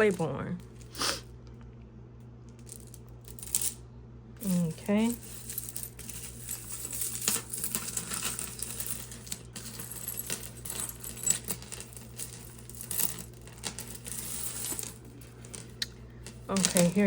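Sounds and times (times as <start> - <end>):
jewelry clinking and rattling: 0.0 - 0.9, 2.6 - 3.8, 4.4 - 17.0.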